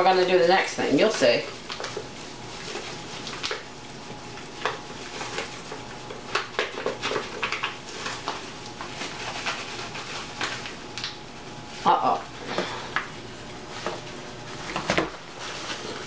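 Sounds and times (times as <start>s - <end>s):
plastic gloves crinkling: 0.0s - 16.0s.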